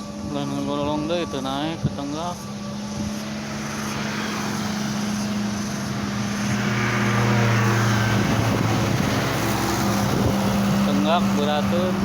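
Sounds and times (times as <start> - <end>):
truck diesel engine labouring: 0.0 - 12.0.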